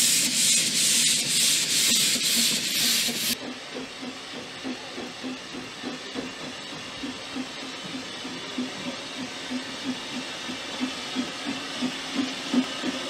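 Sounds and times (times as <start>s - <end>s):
steady steam hiss: 0.0s - 13.0s
steam locomotive exhaust chuffing: 0.0s - 13.0s.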